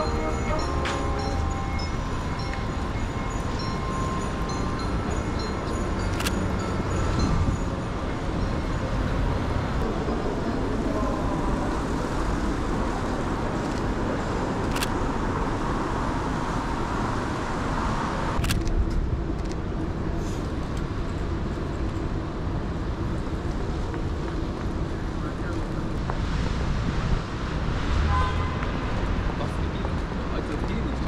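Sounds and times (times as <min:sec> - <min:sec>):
street traffic: 0:00.0 - 0:31.0.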